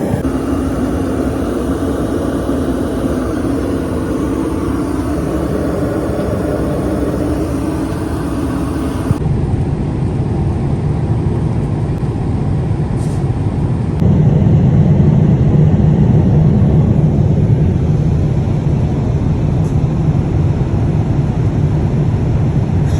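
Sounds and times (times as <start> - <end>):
jet airliner cabin roar: 0.0 - 22.9.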